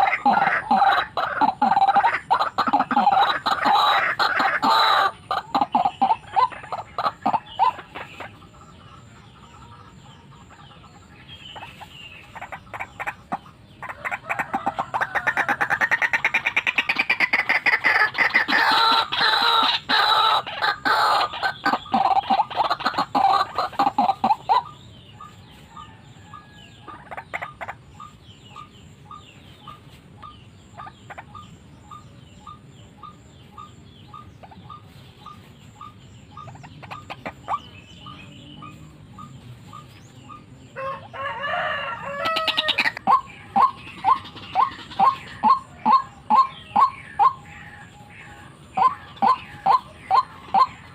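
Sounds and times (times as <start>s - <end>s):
waterhen croaking calls: 0.0s - 8.7s, 10.5s - 25.3s, 26.8s - 50.9s.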